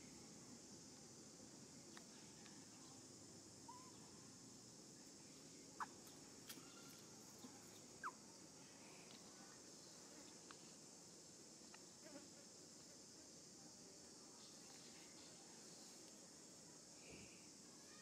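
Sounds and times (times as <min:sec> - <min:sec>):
faint insect drone: 0:00.0 - 0:18.0.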